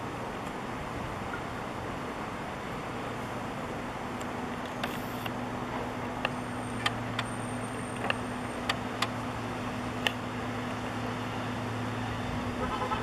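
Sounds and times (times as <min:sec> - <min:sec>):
low mechanical hum: 0:00.0 - 0:13.0
outdoor noise: 0:00.0 - 0:13.0.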